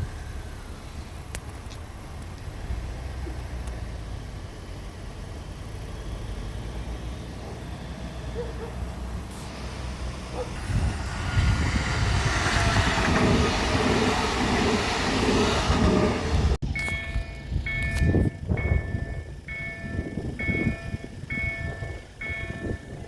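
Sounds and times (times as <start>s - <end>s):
train passing on rails: 0.0s - 23.0s.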